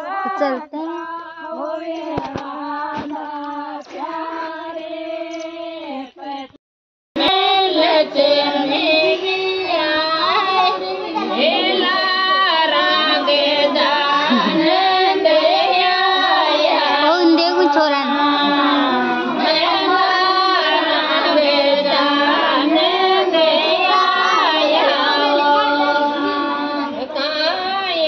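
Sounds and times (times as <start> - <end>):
woman singing: 0.0 - 6.6, 7.2 - 28.0.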